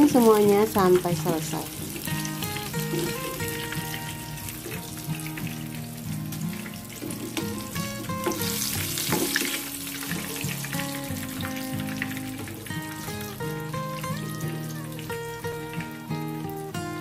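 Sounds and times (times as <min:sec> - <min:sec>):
background music: 0:00.0 - 0:17.0
food deep-frying in hot oil: 0:00.0 - 0:17.0.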